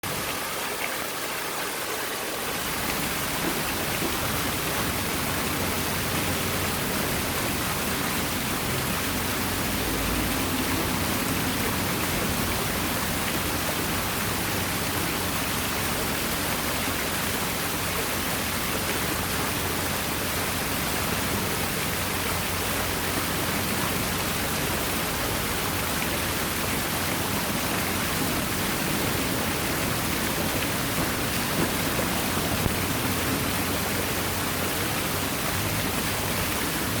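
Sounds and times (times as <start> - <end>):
water splashing over waterfall: 0.0 - 37.0.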